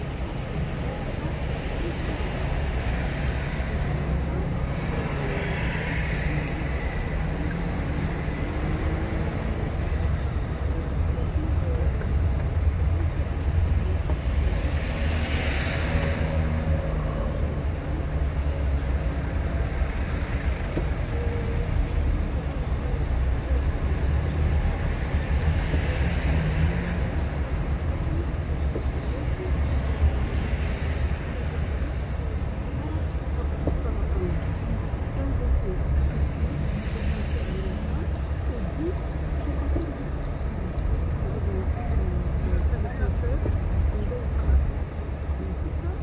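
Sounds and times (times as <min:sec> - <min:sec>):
car engine and road rumble: 0:00.0 - 0:46.0
traffic noise: 0:00.0 - 0:46.0.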